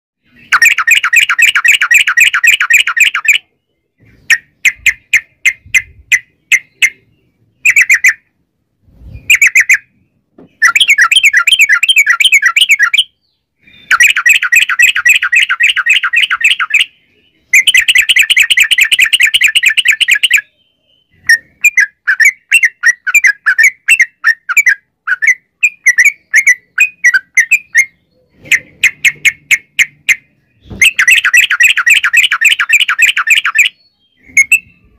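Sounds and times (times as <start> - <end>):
bird chattering song: 0.2 - 8.4, 9.0 - 34.9.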